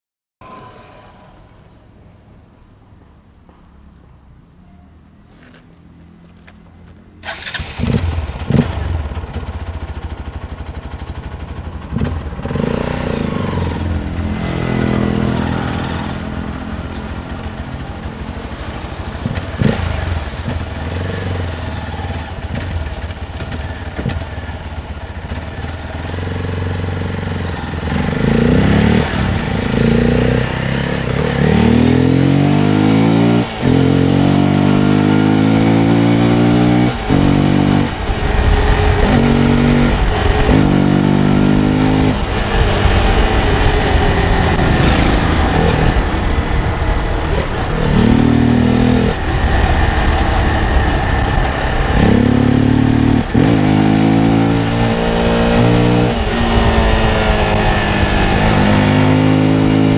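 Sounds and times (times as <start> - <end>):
motorcycle engine revving and accelerating: 7.2 - 59.9.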